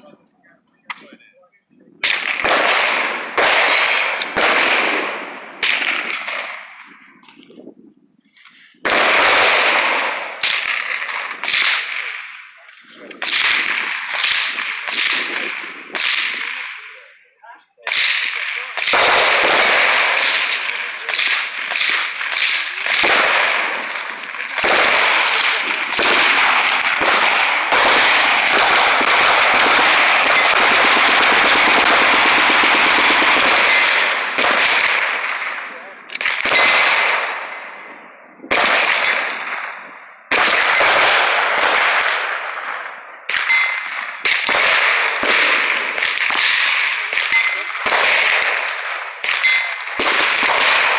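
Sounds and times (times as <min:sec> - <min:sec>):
echoing gunshots: 0:02.0 - 0:07.0, 0:08.8 - 0:12.5, 0:13.1 - 0:17.1, 0:17.8 - 0:50.9.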